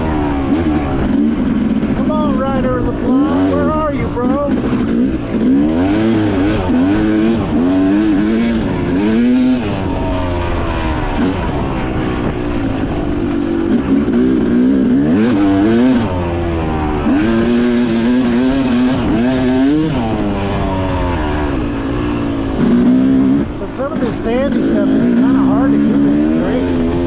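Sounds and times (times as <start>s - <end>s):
dirt bike engine revving: 0.0s - 27.0s
steady rushing noise: 0.0s - 27.0s.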